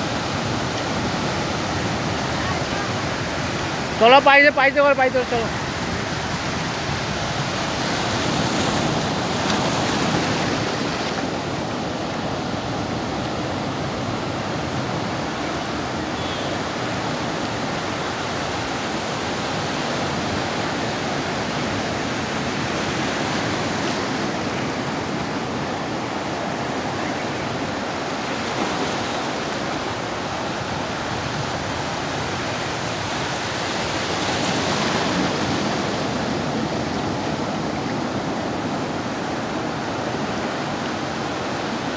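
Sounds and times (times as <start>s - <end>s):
sea surf breaking: 0.0s - 41.9s.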